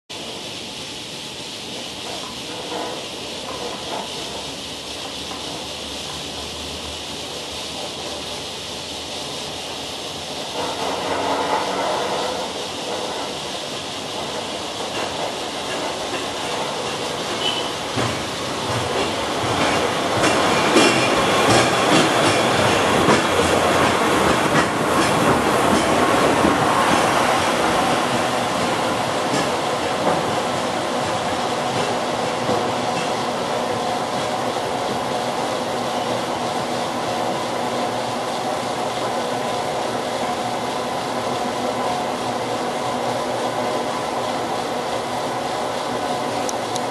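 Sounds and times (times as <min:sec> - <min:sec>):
funicular car hissing and rumbling: 0:00.1 - 0:46.9
tram wheels rattling on rails: 0:00.1 - 0:46.9.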